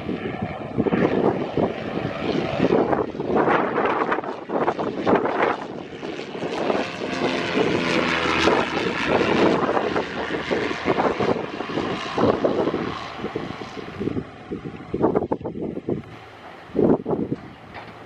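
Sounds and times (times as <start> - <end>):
propeller plane droning overhead: 0.0 - 18.0.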